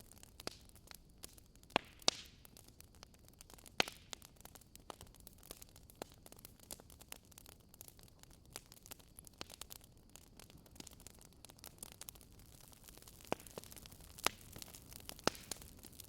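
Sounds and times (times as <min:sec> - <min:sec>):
fireplace wood fire crackling: 0:00.0 - 0:16.0.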